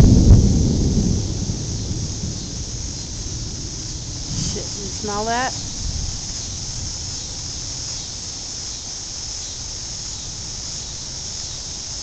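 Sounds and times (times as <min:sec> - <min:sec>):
high-pitched hiss: 0:00.0 - 0:12.0
wind rumbling on microphone: 0:00.0 - 0:12.0.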